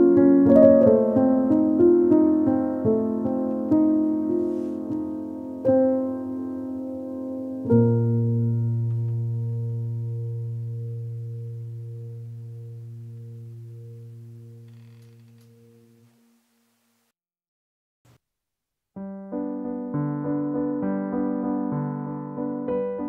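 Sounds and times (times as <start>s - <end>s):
piano chords: 0.0s - 16.1s, 19.0s - 23.0s.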